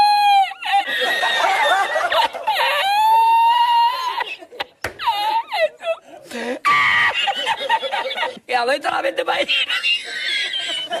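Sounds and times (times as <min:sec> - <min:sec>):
man laughing in squeals: 0:00.0 - 0:07.9, 0:09.6 - 0:11.0.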